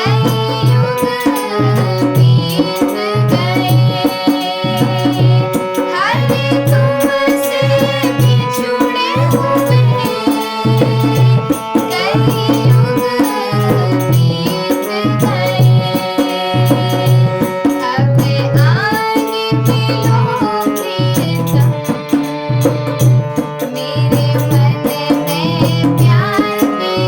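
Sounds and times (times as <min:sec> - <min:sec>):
tabla rhythm: 0:00.0 - 0:27.0.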